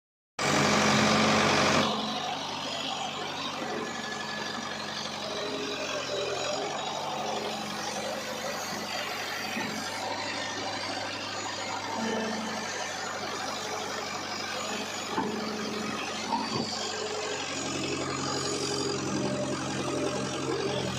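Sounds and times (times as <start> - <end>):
heavy diesel engine running: 0.4 - 20.9.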